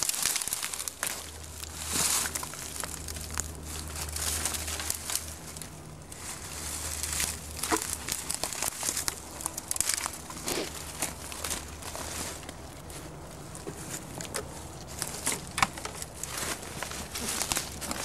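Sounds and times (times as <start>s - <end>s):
branches scraping clothing: 0.0s - 18.0s
steady low hum: 0.0s - 18.0s
twigs and leaves crackling: 0.0s - 18.0s.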